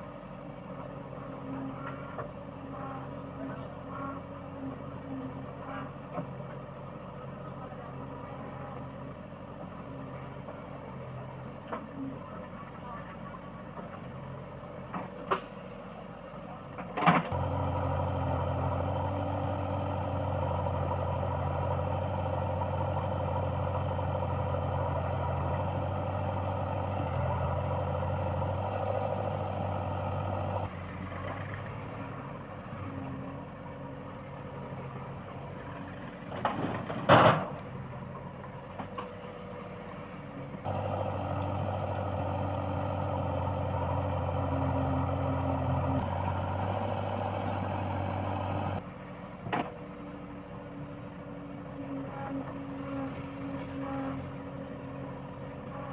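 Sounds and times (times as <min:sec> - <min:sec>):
diesel engine working under load: 0:00.0 - 0:55.9.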